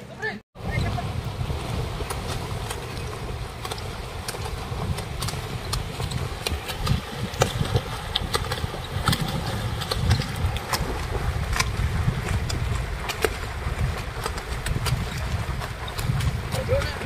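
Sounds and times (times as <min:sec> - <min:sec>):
swimmers splashing: 0:00.0 - 0:17.0.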